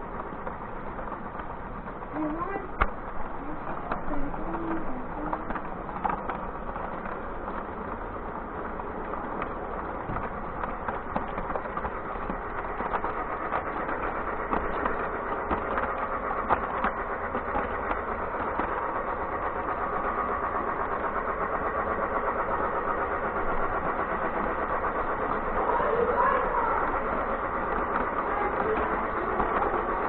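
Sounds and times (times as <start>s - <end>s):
toy train motor whir: 0.0s - 30.0s
train clicks and rattles: 0.0s - 30.0s.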